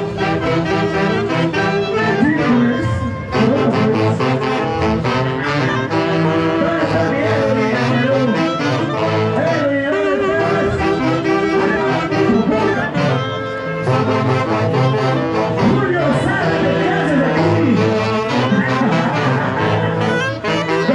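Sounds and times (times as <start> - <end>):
saxophones and brass melody: 0.0 - 20.9.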